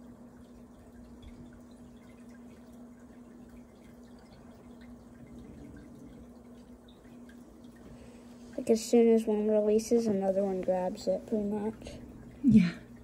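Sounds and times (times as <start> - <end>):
air stone bubbling: 0.0 - 13.0
steady low hum: 0.0 - 13.0.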